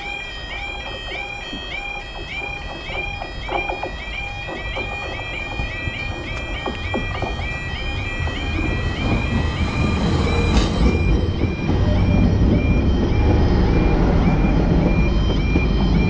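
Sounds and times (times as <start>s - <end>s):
level crossing alarms warbling: 0.0s - 16.0s
train rumble: 0.0s - 16.0s.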